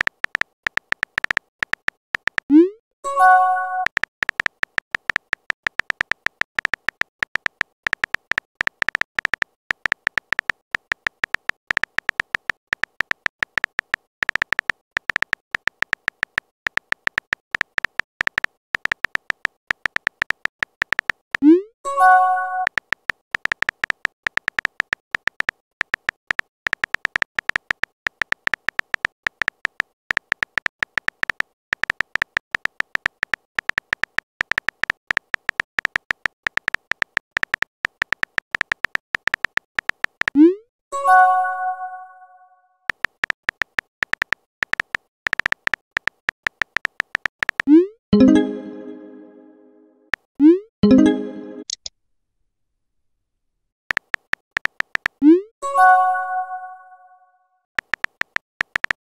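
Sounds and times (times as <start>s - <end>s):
keyboard typing clicks: 0.0s - 42.0s, 42.9s - 51.9s, 53.9s - 56.8s, 57.8s - 59.0s.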